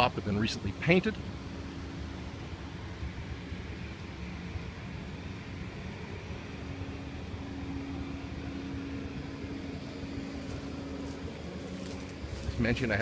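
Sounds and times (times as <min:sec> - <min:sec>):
engine rumbling: 0:00.0 - 0:13.0
steady hum: 0:00.0 - 0:13.0.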